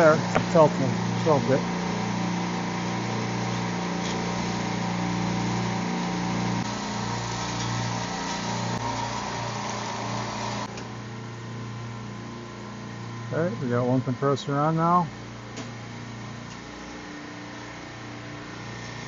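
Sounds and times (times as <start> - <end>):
refrigeration compressors humming: 0.0 - 19.0.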